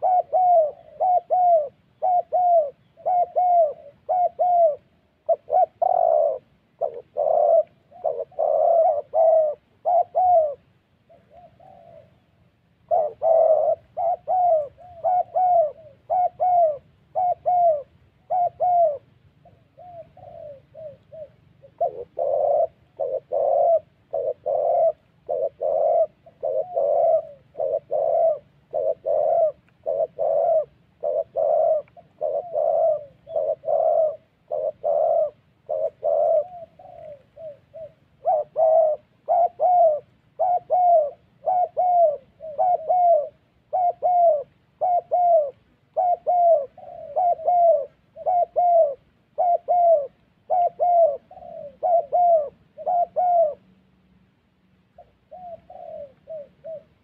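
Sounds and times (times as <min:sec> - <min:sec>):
doves cooing: 0:00.0 - 0:54.1, 0:54.8 - 0:57.0.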